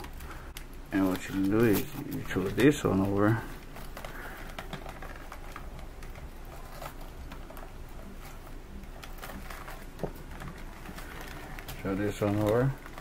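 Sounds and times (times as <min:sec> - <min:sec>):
nylon straps rustling: 0:00.0 - 0:13.0.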